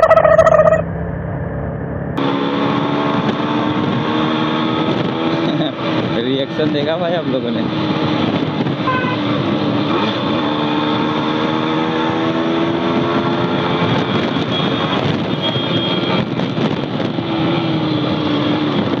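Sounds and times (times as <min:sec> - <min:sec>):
wind on microphone: 0:02.6 - 0:06.9, 0:07.5 - 0:19.0.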